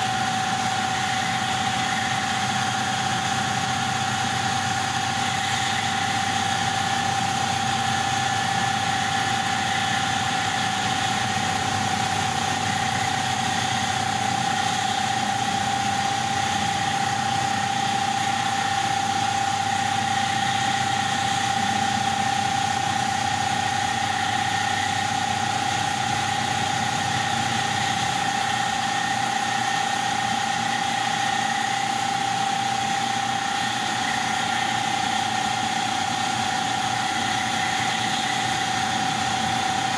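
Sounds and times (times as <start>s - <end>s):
laser cutting machine whine: 0.0s - 39.9s.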